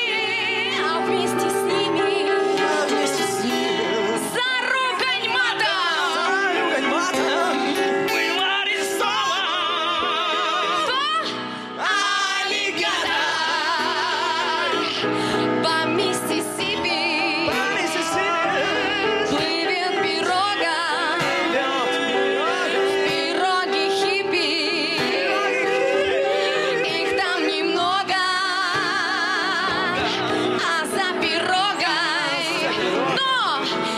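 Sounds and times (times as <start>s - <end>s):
acoustic guitar: 0.0s - 33.9s
person singing with vibrato: 0.0s - 33.9s.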